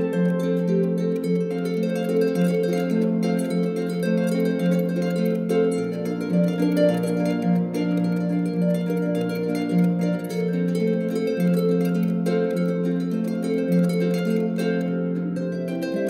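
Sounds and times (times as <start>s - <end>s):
harp being plucked: 0.0s - 16.0s.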